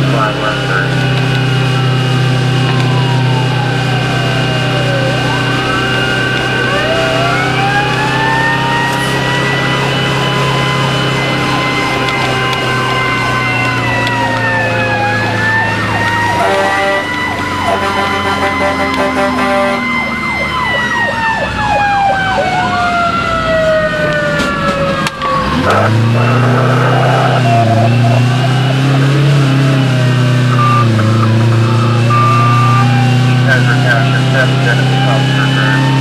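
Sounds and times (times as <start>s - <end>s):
fire engine siren: 0.0s - 36.0s
truck engine running: 0.0s - 36.0s.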